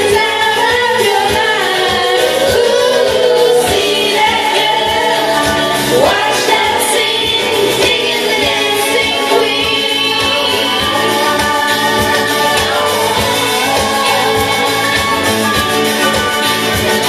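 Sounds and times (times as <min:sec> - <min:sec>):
karaoke backing track: 0:00.0 - 0:17.0
women singing into microphones: 0:00.0 - 0:17.0.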